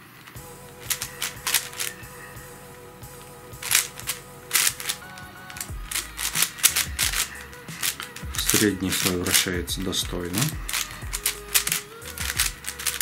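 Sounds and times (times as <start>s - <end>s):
plastic puzzle cube clacking: 0.2s - 2.0s, 3.6s - 9.6s, 10.3s - 13.0s.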